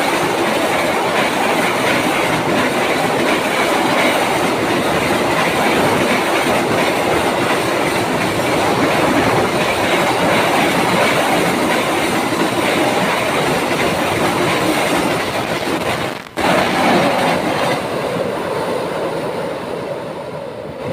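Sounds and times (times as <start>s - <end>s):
train wheels clattering on bridge: 0.0s - 18.8s.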